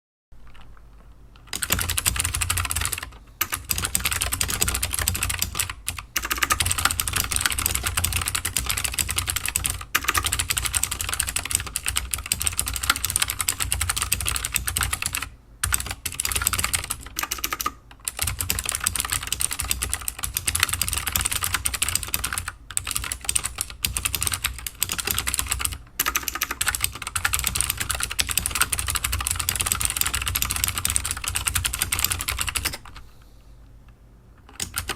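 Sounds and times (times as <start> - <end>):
clicky mechanical keyboard typing: 0.4 - 33.0, 34.4 - 34.9.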